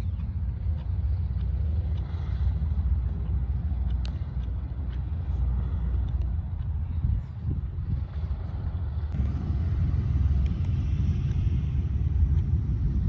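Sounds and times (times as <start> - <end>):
radial aircraft engines rumbling: 0.0 - 13.0.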